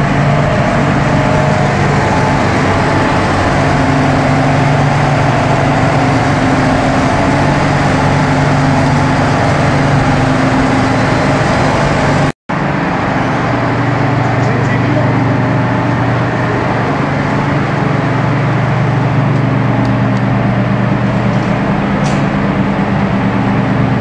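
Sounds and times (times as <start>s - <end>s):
compressors and fans humming: 0.0s - 24.0s.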